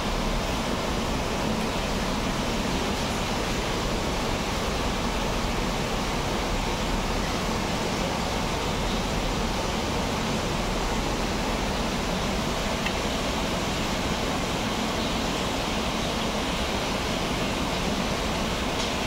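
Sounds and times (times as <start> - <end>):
aquarium water rushing: 0.0 - 19.0.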